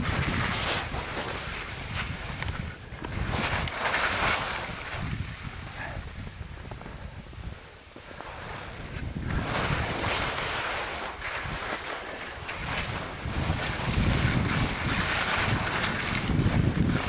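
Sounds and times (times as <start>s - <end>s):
skis scraping over snow: 0.0s - 17.0s
wind rumble on microphone: 0.0s - 17.0s.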